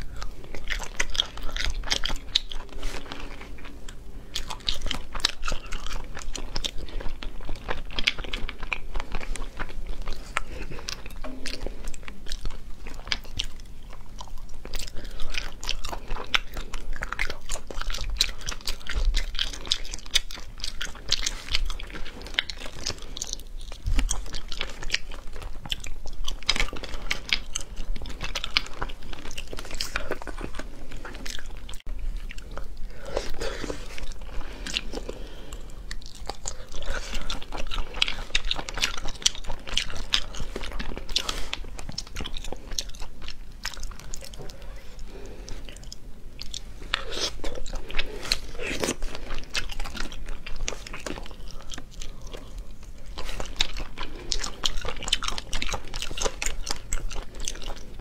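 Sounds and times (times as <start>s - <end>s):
close chewing and mouth clicks: 0.0s - 58.0s.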